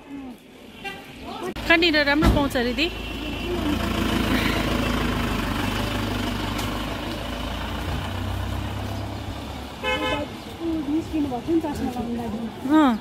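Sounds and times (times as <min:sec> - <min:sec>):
vehicle engine humming: 0:00.3 - 0:13.0.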